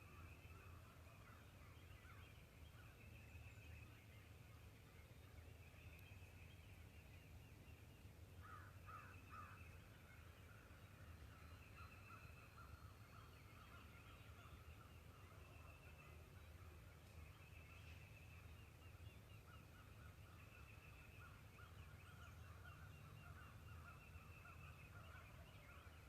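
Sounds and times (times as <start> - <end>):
distant birds calling: 0.0 - 26.0.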